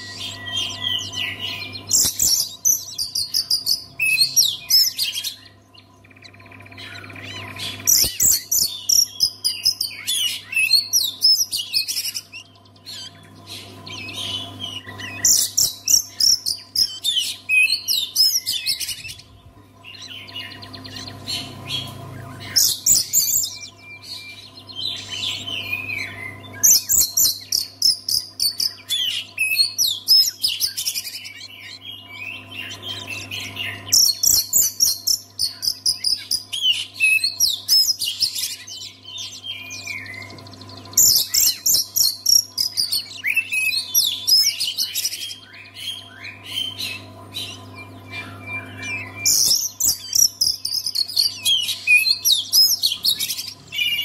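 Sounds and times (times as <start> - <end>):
bird singing whistles and chirps: 0.0 - 54.0.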